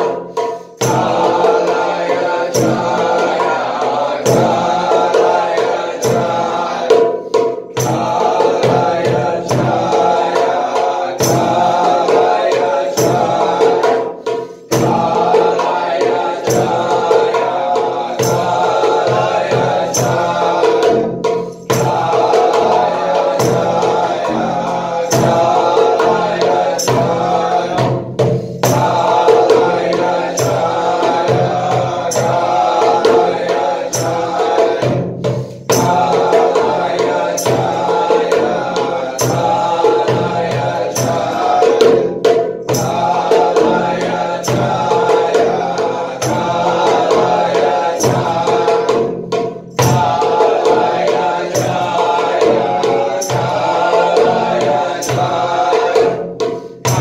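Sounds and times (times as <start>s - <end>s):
person chanting: 0.0s - 7.2s, 7.8s - 28.0s, 28.6s - 35.0s, 35.7s - 49.1s, 49.8s - 57.0s
percussion beat: 0.0s - 57.0s.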